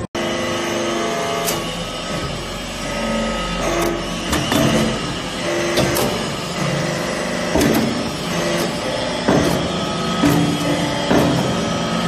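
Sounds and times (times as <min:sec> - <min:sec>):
hydraulic press humming: 0:00.0 - 0:12.0.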